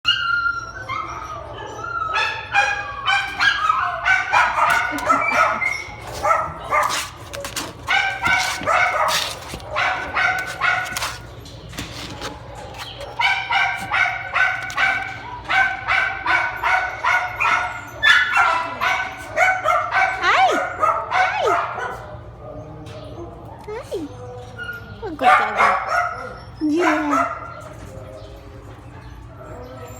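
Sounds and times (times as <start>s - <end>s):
dogs barking and yipping: 0.0s - 29.9s.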